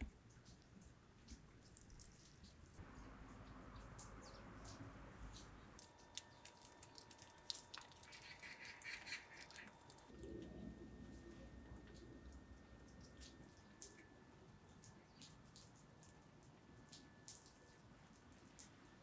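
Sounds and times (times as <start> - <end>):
faint high chirps and ticks: 0.0 - 10.6, 11.8 - 19.0
faint steady tone: 2.7 - 19.0.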